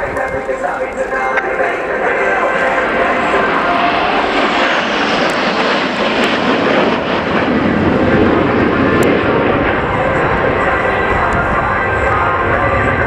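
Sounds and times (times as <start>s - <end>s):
fighter jets flying overhead: 0.0s - 13.0s.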